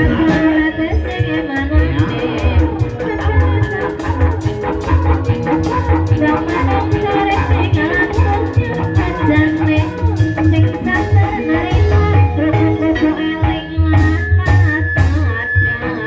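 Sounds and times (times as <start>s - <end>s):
percussion ensemble playing: 0.0s - 15.9s
pitched melodic notes: 0.0s - 16.0s.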